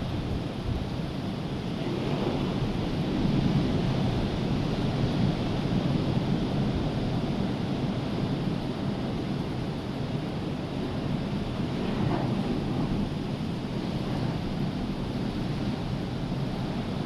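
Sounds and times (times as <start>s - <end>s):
rough sea surf rushing: 0.0s - 17.0s.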